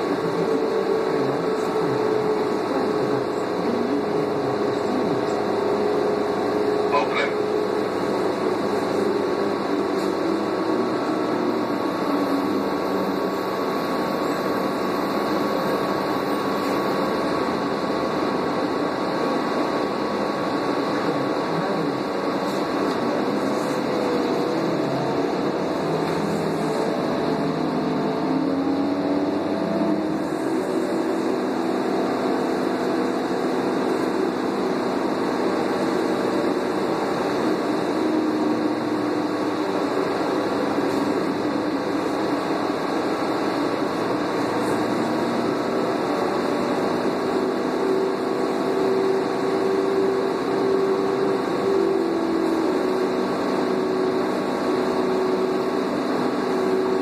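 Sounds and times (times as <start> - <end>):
bus engine drone: 0.0 - 57.0
transmission whine: 0.0 - 57.0.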